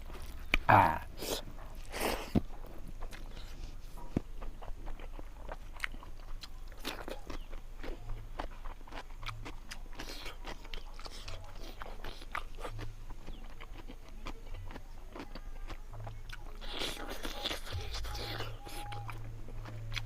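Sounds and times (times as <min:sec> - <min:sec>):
person chewing and crunching: 0:00.0 - 0:20.0.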